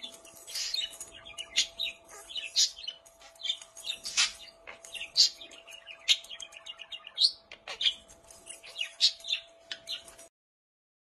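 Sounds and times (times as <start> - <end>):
budgerigar chirping: 0.5 - 10.1.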